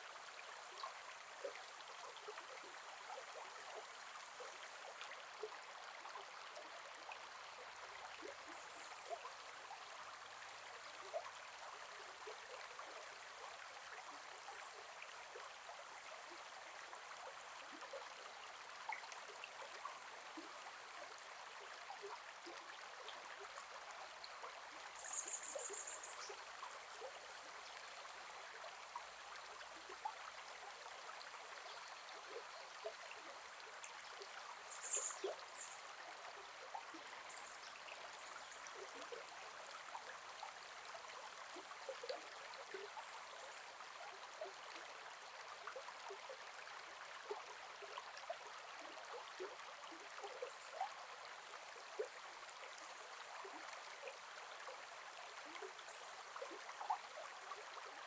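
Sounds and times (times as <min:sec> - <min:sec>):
river flowing with gurgles: 0:00.0 - 0:58.0.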